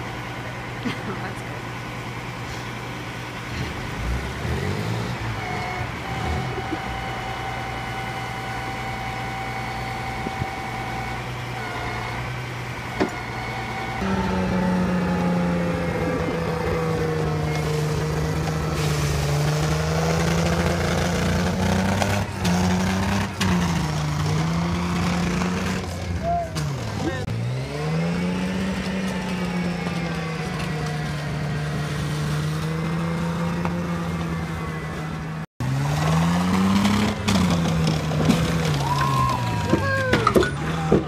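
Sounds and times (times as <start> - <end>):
tracked vehicle engine running: 0.0 - 41.0.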